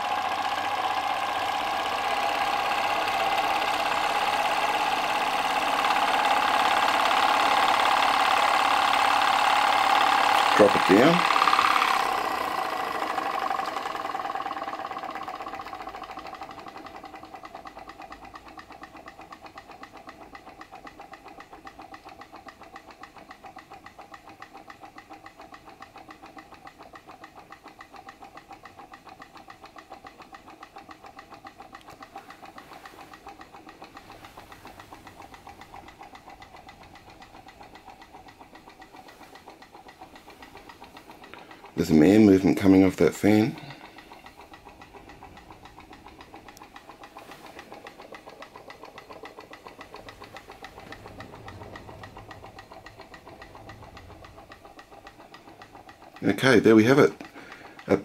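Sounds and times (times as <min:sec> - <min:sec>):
small engine mechanical clatter: 0:00.0 - 0:58.0.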